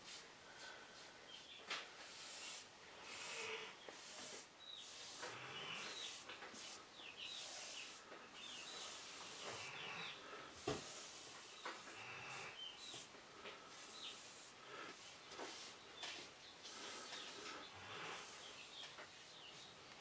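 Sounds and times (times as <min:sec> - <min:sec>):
applicator spreading varnish: 0:00.1 - 0:20.0.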